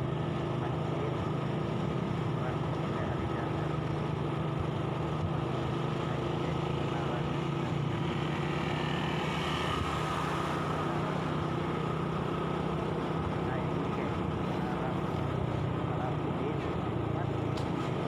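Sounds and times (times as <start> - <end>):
motorcycle engine humming: 0.0 - 18.0
road and wind noise: 0.0 - 18.0.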